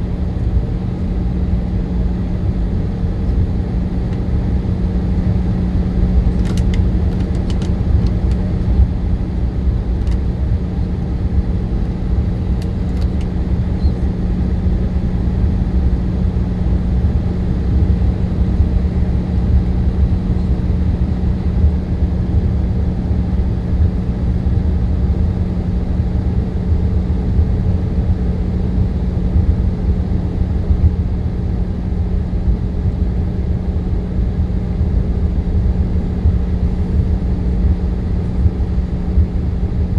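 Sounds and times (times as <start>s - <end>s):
jet airliner engine rumble: 0.0s - 39.9s.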